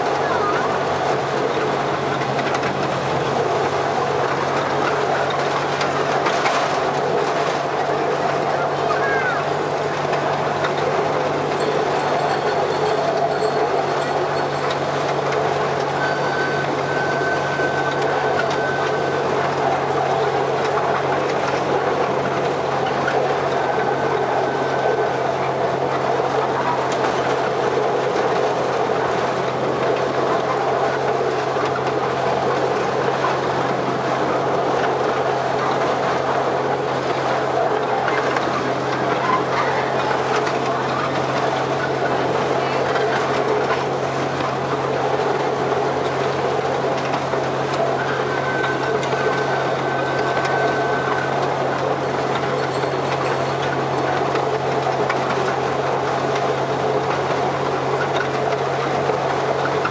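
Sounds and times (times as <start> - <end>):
miniature locomotive motor drone: 0.0 - 59.9
wheels rattling on track: 0.0 - 59.9.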